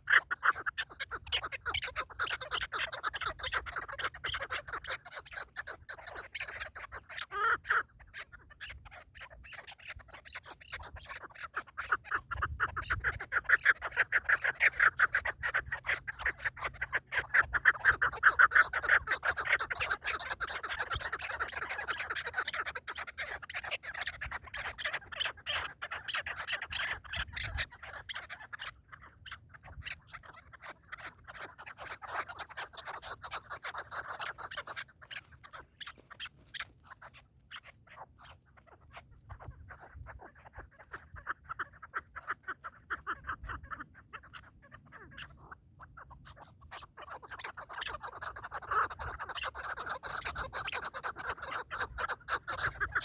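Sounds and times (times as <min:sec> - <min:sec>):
partridges calling: 0:00.0 - 0:53.0.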